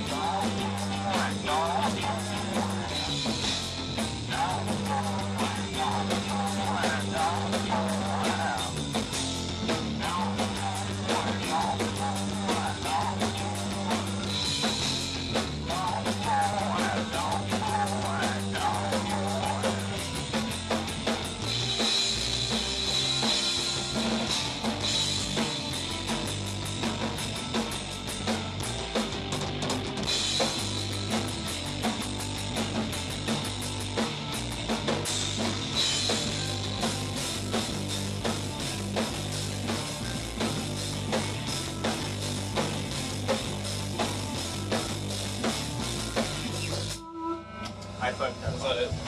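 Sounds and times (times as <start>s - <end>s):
rock music with singing: 0.0s - 49.0s.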